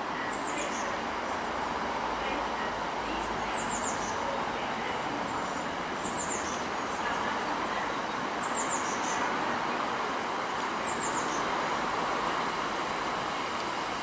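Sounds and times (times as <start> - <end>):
diesel train running: 0.0 - 14.0.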